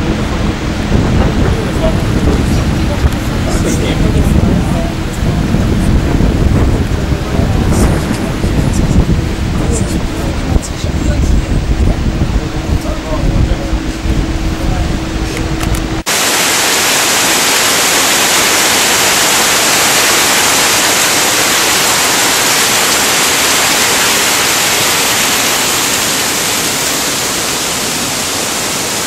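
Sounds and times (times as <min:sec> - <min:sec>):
low wind rumble: 0:00.0 - 0:29.0
steady hum: 0:00.0 - 0:29.0
waterfall rushing: 0:00.0 - 0:29.0.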